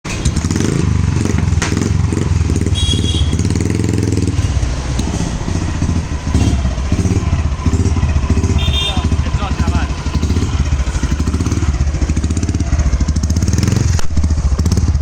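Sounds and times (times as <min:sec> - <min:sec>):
motorcycle engine running: 0:00.1 - 0:15.0.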